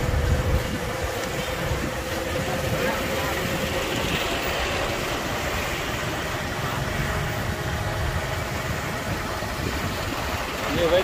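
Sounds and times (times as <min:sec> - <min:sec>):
motorbike engine hum: 0:00.0 - 0:11.0
road noise: 0:00.0 - 0:11.0.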